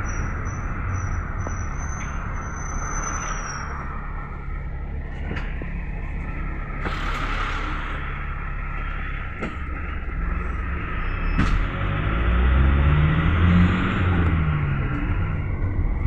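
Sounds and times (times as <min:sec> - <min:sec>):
minibus engine and road rumble: 0:00.0 - 0:16.0.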